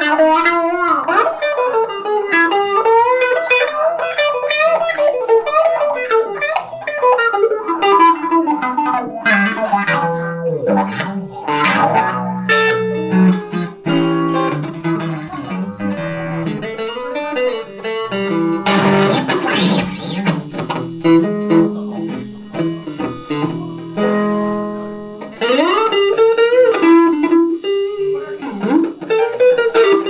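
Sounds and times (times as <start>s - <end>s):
electric guitar playing blues: 0.0s - 30.0s.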